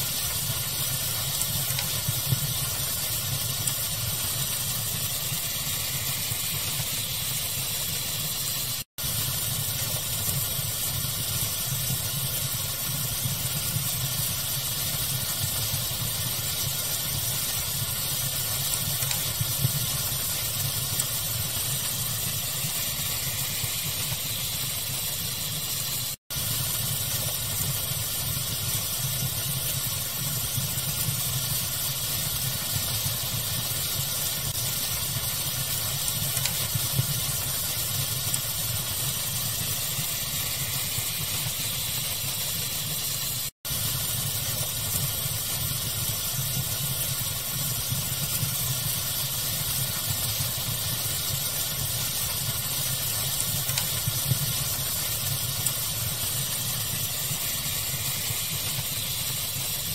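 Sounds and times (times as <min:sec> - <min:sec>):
fire crackling: 0:00.0 - 0:59.9
pink noise hiss: 0:00.0 - 0:59.9.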